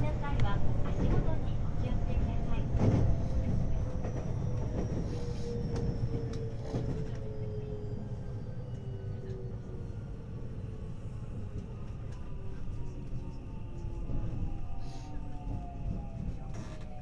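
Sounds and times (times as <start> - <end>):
train wheels rumbling on rail: 0.0 - 8.1, 9.2 - 17.0.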